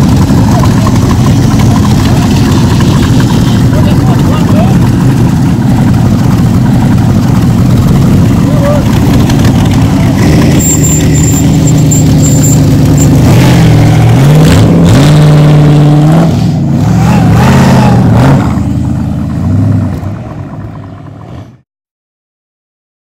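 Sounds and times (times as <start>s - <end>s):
motorcycle engines revving: 0.0s - 21.6s.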